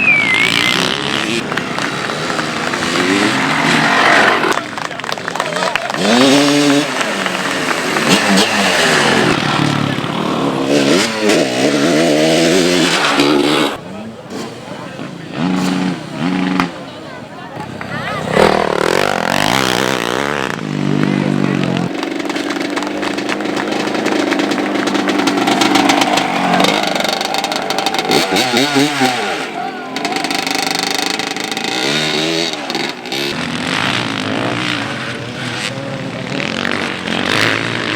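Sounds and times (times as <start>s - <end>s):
motocross bike engines revving: 0.0s - 37.9s.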